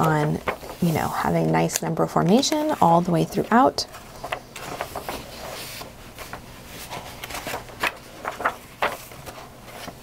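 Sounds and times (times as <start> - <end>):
book pages flipping: 0.0 - 10.0.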